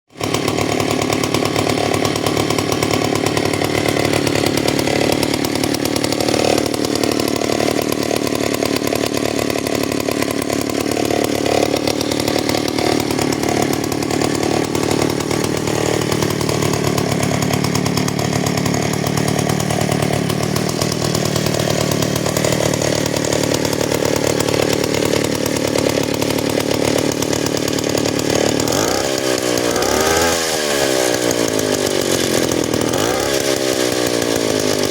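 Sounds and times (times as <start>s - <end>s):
small two-stroke engine running: 0.1s - 34.9s.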